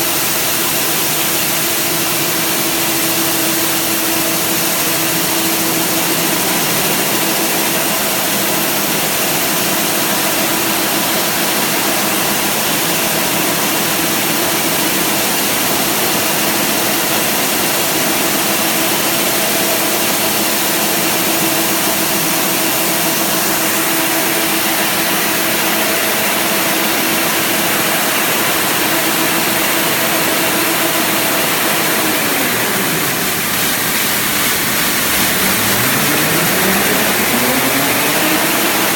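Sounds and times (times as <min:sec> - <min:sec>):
printing machine whirring: 0:01.5 - 0:38.9.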